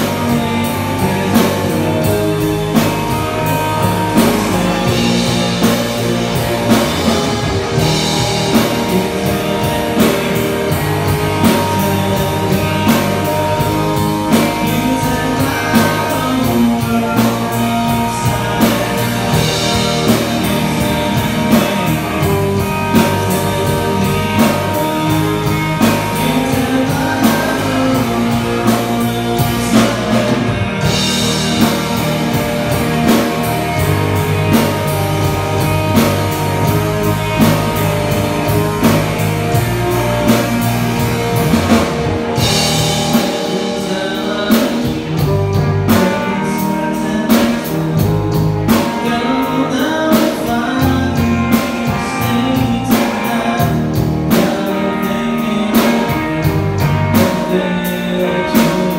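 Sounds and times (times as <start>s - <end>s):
drum kit: 0.0s - 58.9s
electric bass: 0.0s - 58.9s
electric guitar: 0.0s - 58.9s
man singing: 0.0s - 58.9s.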